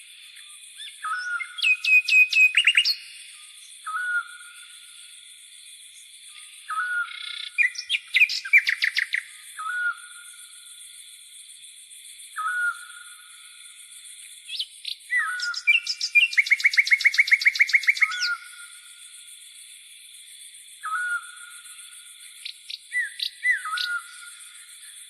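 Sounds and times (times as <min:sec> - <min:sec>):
songbird calls: 0:00.0 - 0:10.9, 0:12.3 - 0:19.6, 0:20.3 - 0:25.0.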